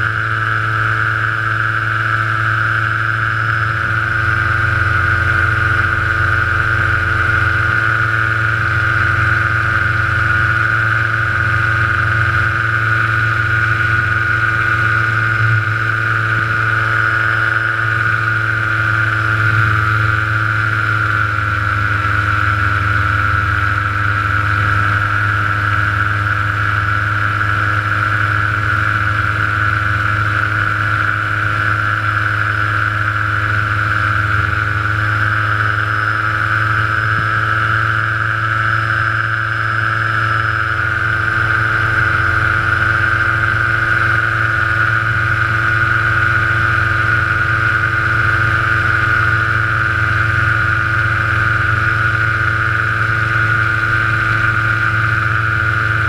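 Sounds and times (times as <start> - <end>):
small aircraft engine running: 0.0 - 56.0.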